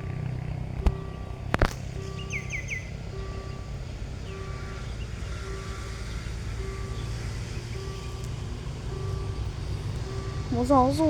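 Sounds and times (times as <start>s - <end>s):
low engine rumble: 0.0s - 11.0s
two-note electronic warning tone: 0.0s - 11.0s.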